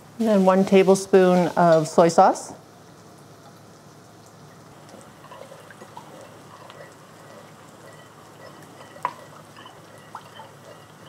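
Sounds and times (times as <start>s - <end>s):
onions sizzling in a pan: 0.1s - 3.0s, 3.8s - 11.0s.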